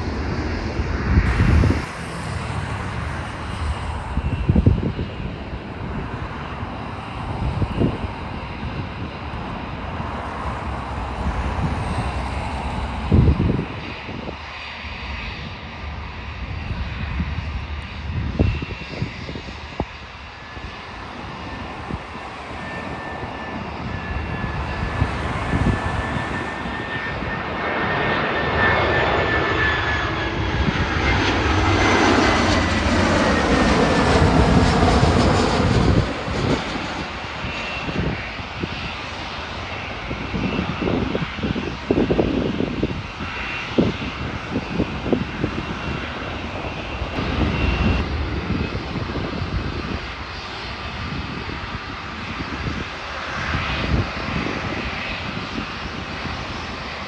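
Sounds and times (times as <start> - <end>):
jet engine rumble: 0.0 - 57.0.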